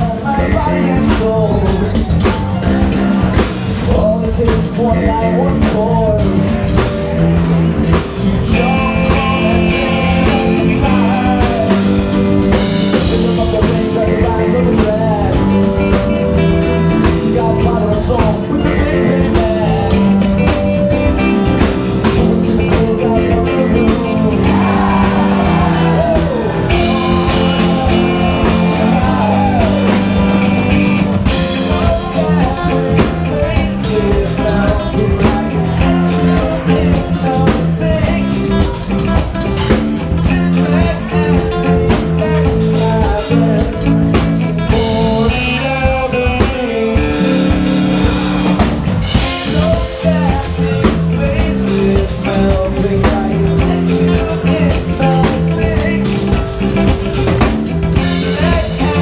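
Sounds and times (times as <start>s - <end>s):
drum kit: 0.0s - 59.0s
electric bass: 0.0s - 59.0s
electric guitar: 0.0s - 59.0s
keyboards: 0.0s - 59.0s.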